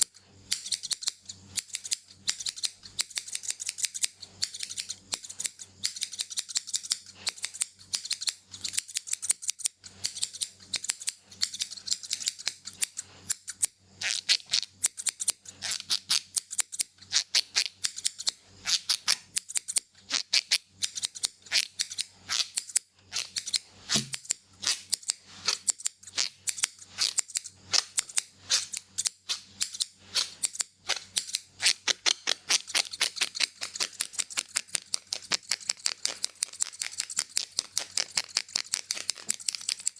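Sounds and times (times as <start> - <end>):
scissors snipping rapidly: 0.0 - 39.9.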